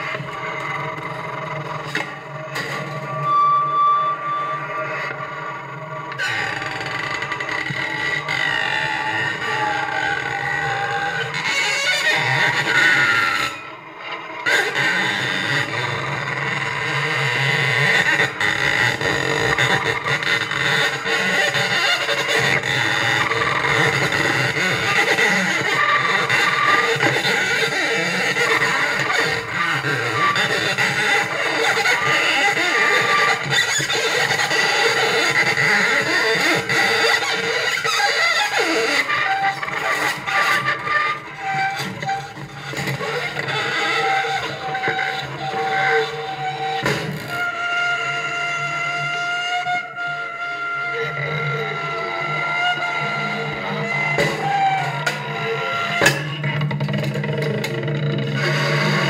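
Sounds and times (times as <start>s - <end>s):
bowed string rough tone: 0.0s - 59.0s.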